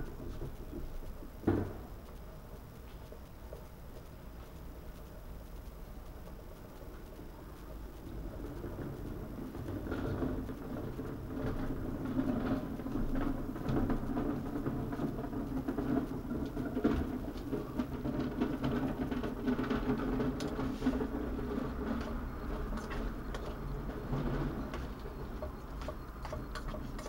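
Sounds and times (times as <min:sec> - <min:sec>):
pot simmering with bubbling and pops: 0:00.0 - 0:27.0.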